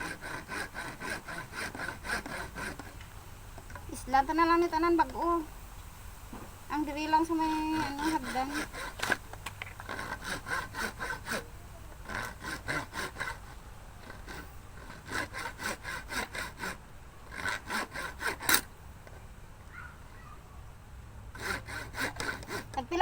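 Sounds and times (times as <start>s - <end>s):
hand saw cutting pipe: 0.0s - 5.3s, 6.8s - 19.2s, 21.3s - 23.0s.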